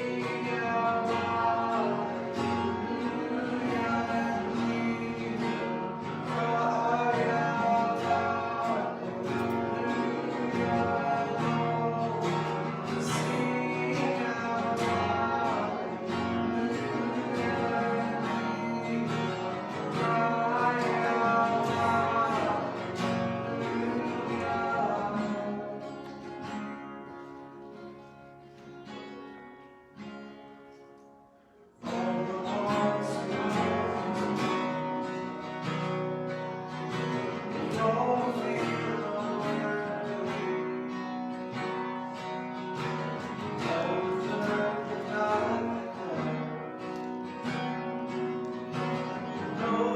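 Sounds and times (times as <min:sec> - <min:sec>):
person singing: 0:00.0 - 0:26.4, 0:31.8 - 0:35.8, 0:36.9 - 0:47.3, 0:48.7 - 0:49.9
acoustic guitar: 0:00.0 - 0:49.9.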